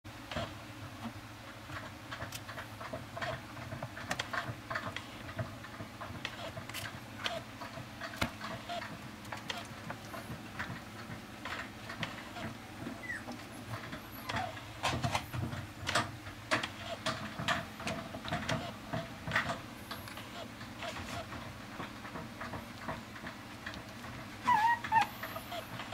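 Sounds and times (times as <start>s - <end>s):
low background hum: 0.1s - 25.9s
puppy claws clicking on plastic: 1.6s - 25.9s.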